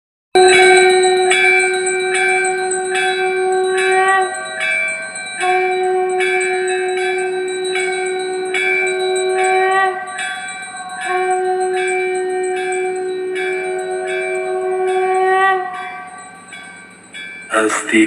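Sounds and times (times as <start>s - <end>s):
held note over loudspeakers: 0.4s - 16.6s
bell chimes ringing: 0.4s - 18.0s.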